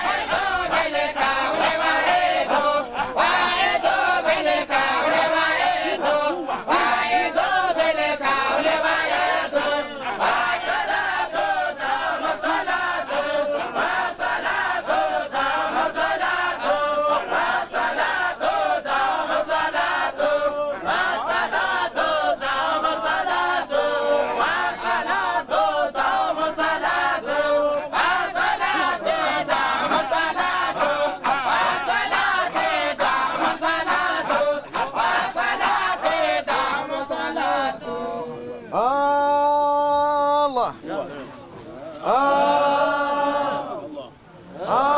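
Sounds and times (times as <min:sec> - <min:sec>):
men chanting together: 0:00.0 - 0:40.1, 0:42.0 - 0:44.9.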